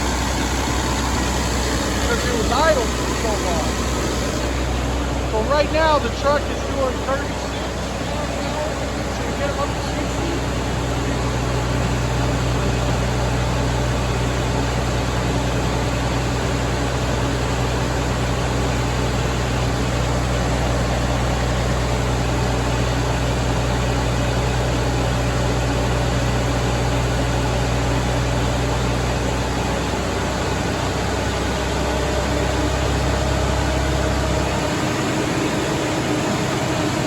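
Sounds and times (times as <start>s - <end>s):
diesel engine running under load: 0.0s - 37.0s.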